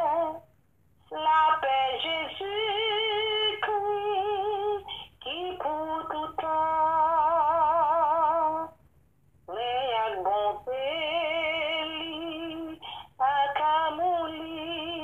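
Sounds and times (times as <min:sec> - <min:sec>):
solo voice singing a hymn: 0:00.0 - 0:00.4, 0:01.0 - 0:08.8, 0:09.5 - 0:15.0.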